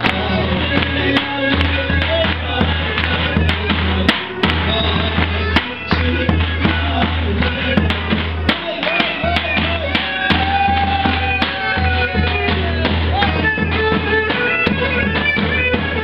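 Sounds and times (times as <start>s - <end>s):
bass drum beaten in steady rhythm: 0.0s - 16.0s.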